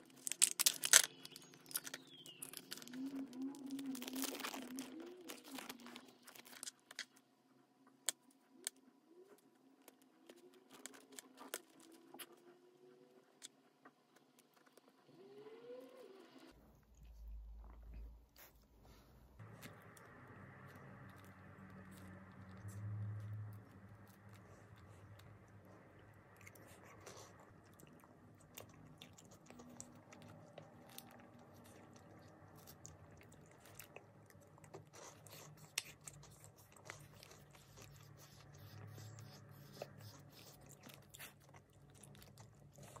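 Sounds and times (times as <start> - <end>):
soft chewing: 0.0 - 15.8, 16.7 - 43.0.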